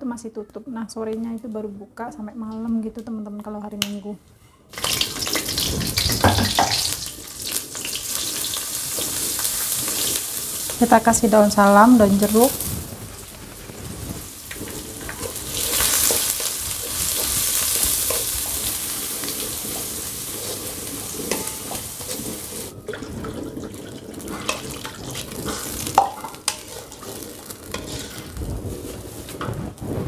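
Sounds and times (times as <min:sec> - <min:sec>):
paste sizzling in hot oil: 0:04.7 - 0:29.8
wooden spatula stirring in wok: 0:04.8 - 0:30.0.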